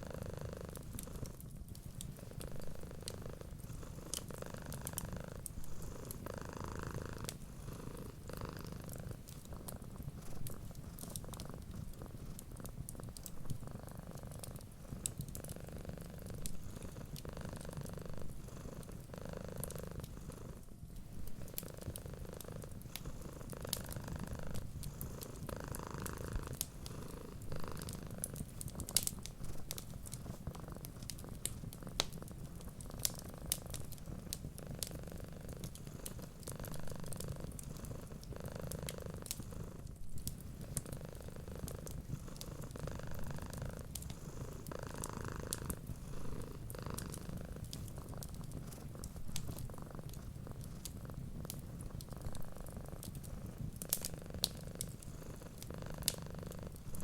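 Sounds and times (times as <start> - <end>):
cat purring: 0.0 - 57.0
wood fire crackling: 0.7 - 57.0.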